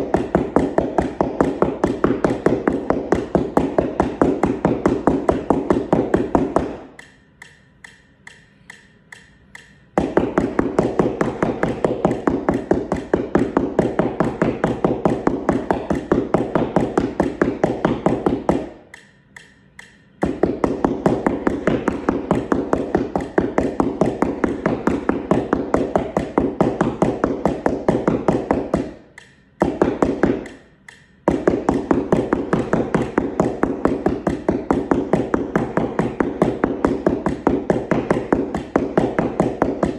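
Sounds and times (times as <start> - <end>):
mallets tapping practice mat: 0.0 - 39.9.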